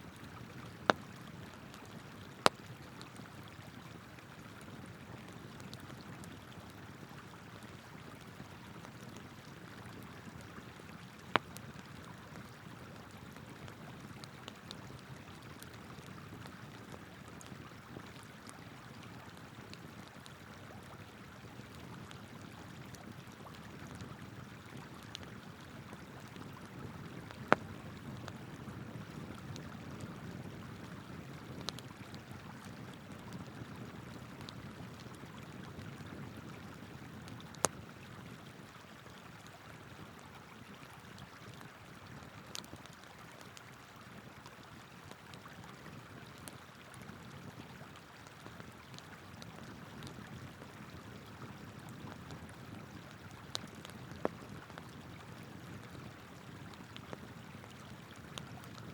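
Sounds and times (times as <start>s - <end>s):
campfire crackling and popping: 0.0s - 38.3s, 42.1s - 47.9s, 48.5s - 58.9s.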